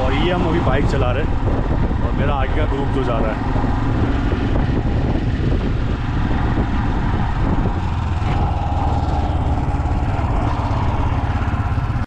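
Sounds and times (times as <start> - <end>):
motorcycle engine throbbing: 0.0 - 12.0.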